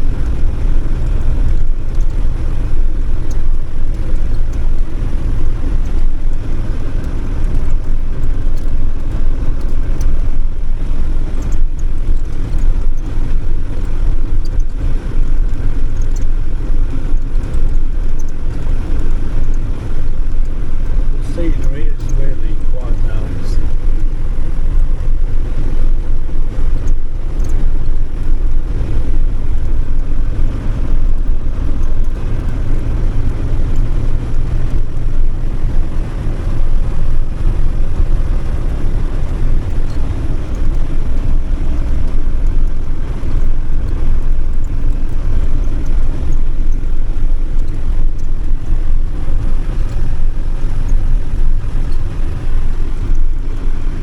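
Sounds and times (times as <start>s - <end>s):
engine and tyre rumble: 0.0s - 54.0s.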